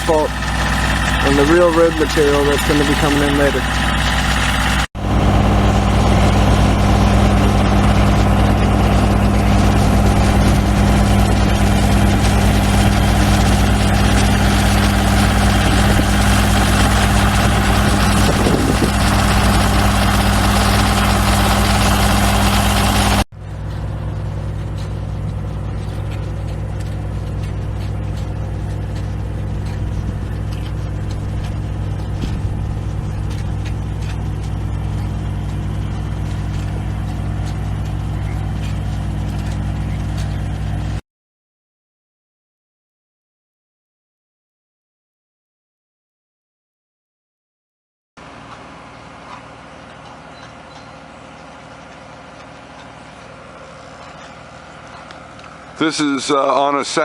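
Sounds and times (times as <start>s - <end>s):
engine idling: 0.0s - 41.0s, 48.2s - 57.0s.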